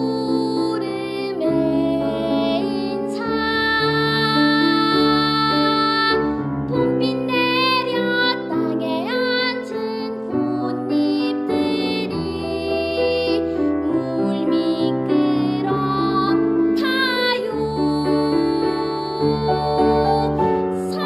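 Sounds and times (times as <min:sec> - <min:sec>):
girl singing: 0:00.0 - 0:21.0.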